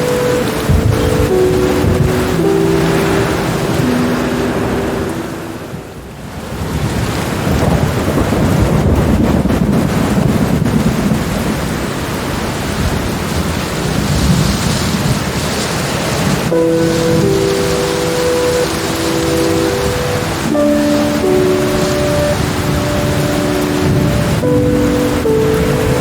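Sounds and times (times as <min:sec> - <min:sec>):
rolling thunder rumble: 0:00.0 - 0:26.0
steady rain: 0:00.0 - 0:26.0.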